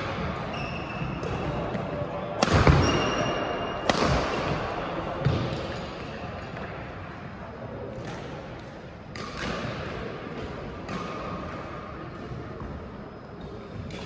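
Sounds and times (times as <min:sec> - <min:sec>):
sports hall background noise: 0:00.0 - 0:14.0.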